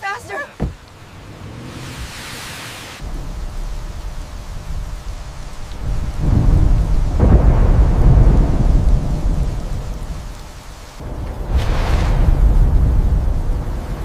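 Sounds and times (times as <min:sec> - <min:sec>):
steady rain: 0:00.0 - 0:14.0
thunder rumbling: 0:00.6 - 0:14.0.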